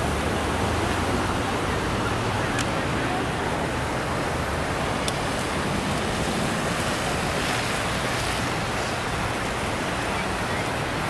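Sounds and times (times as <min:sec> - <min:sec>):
floodwater rushing across road: 0:00.0 - 0:11.0.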